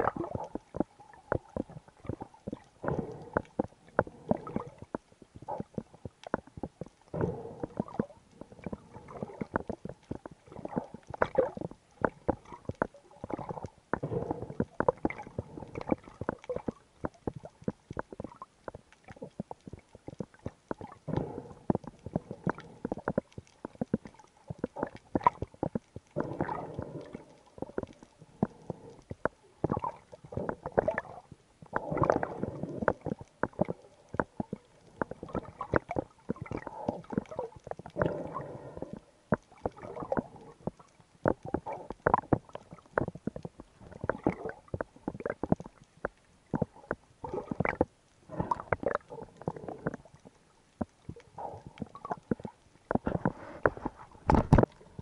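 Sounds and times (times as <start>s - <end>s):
muffled underwater water surges: 0.0s - 55.0s
sharp clicks and crackles: 0.0s - 55.0s.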